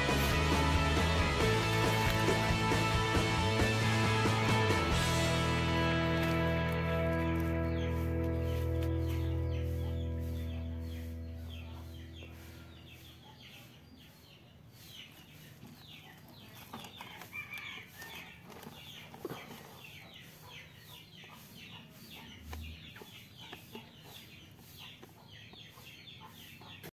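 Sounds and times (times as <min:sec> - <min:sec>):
chickens clucking and peeping: 0:00.0 - 0:26.9.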